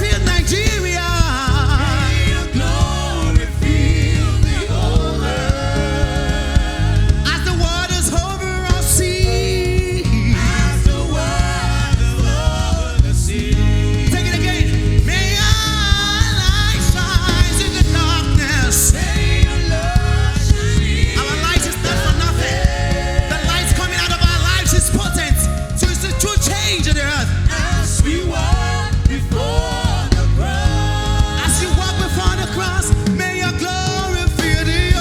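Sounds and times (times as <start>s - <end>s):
band with bass and beat: 0.0s - 35.0s
person singing with vibrato: 0.0s - 35.0s.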